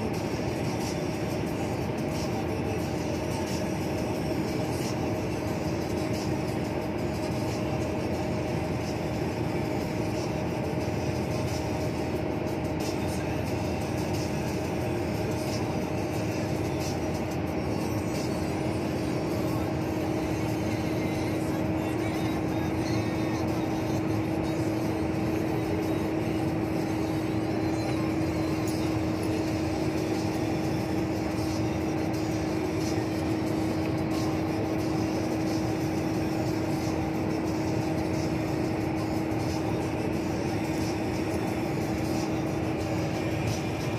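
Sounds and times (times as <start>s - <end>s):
vehicle cruising on highway: 0.0s - 43.9s.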